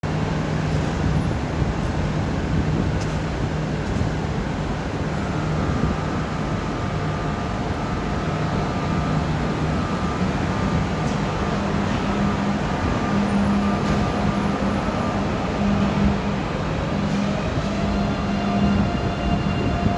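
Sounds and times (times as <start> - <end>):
high-speed train humming: 0.0 - 19.9.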